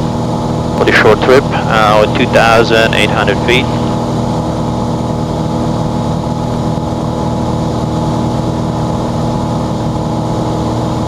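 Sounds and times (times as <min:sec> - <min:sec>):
small plane engine drone: 0:00.0 - 0:11.0.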